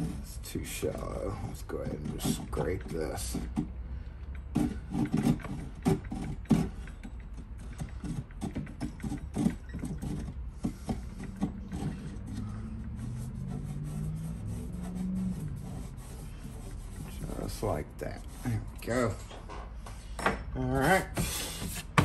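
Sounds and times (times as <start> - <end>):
hand tool scraping in hole: 0.0 - 3.8, 4.5 - 19.4, 21.1 - 22.0.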